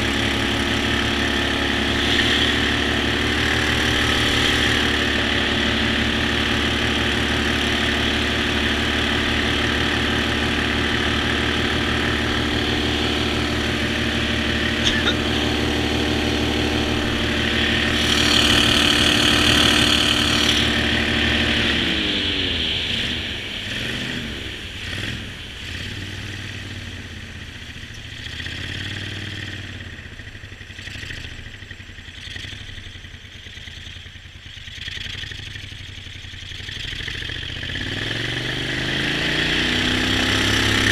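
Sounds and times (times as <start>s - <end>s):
boat motor running: 0.0s - 40.9s.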